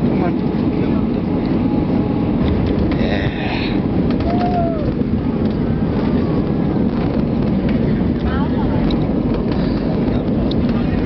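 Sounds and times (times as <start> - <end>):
airplane cabin rumble on landing: 0.0 - 11.0.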